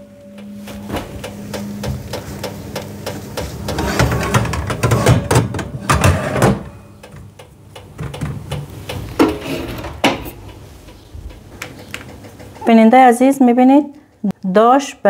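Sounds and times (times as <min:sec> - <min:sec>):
oven tray clattering: 0:00.0 - 0:13.0.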